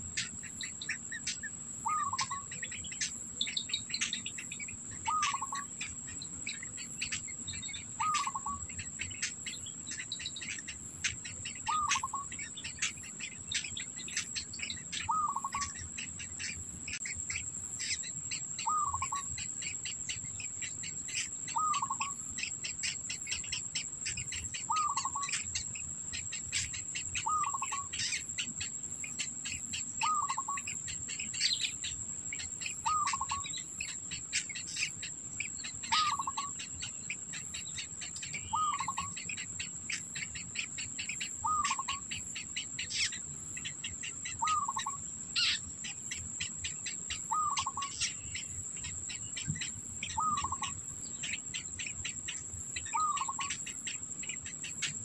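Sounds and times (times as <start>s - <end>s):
bird call: 0.0s - 55.0s
high-pitched insect drone: 0.0s - 55.0s.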